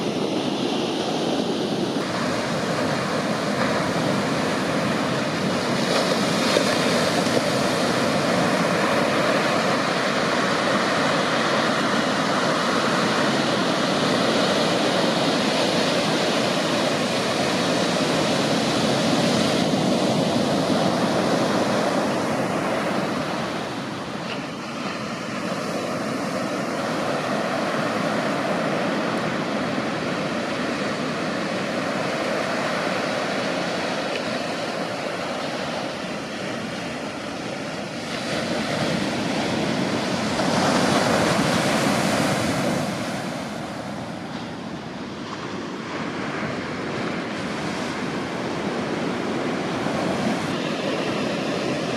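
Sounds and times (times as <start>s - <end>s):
waves breaking on beach: 0.0s - 51.9s.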